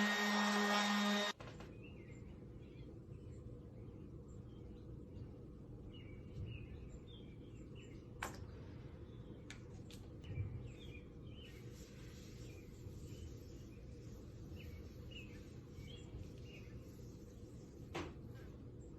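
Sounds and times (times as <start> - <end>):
small birds chirping: 1.6 - 18.9.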